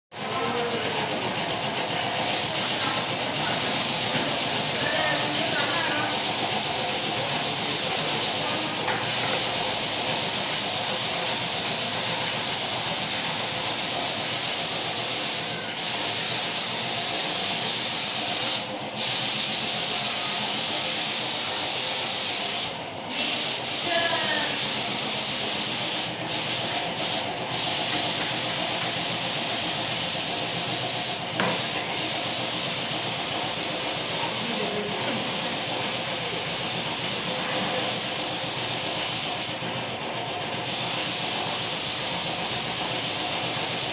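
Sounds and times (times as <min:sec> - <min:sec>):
paint spray gun hissing: 0:02.1 - 0:39.6, 0:40.6 - 0:43.9.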